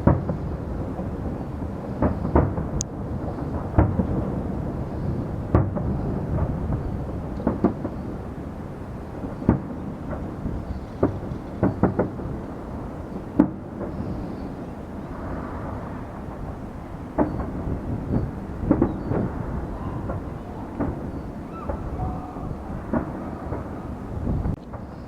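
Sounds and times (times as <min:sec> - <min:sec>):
fireworks bangs: 0:00.0 - 0:25.0
low rumble of bursts: 0:00.0 - 0:25.0.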